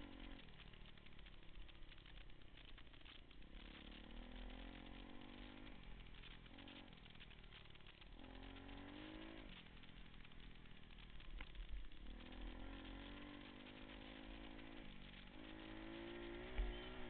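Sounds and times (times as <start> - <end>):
pit bike engine revving: 0.0 - 17.0.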